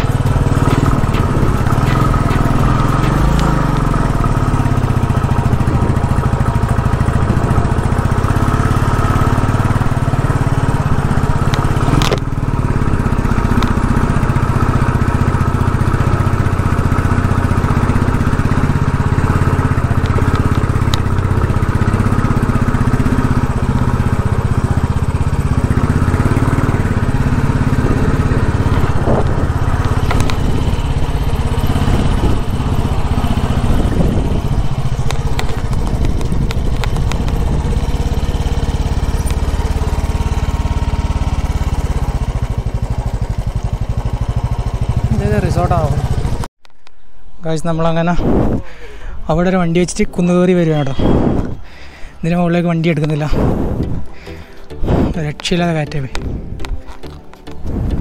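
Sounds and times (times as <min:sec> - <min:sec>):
motorcycle engine running: 0:00.0 - 0:46.5, 0:48.4 - 0:58.0.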